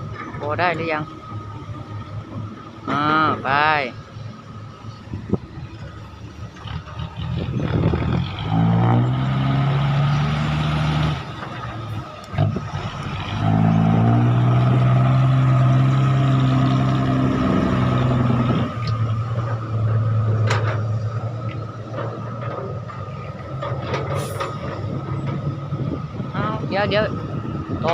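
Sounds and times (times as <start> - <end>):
dump truck diesel engine revving: 4.5 - 27.9.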